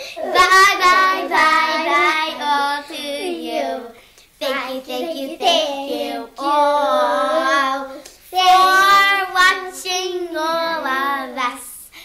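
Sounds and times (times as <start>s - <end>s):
girls singing: 0.0s - 11.4s.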